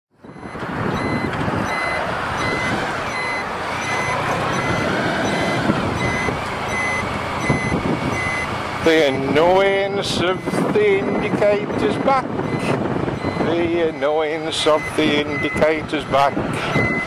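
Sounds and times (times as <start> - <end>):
turn signal beeper: 0.2 - 8.5, 9.2 - 15.8, 16.6 - 17.0
wind noise: 0.2 - 17.0.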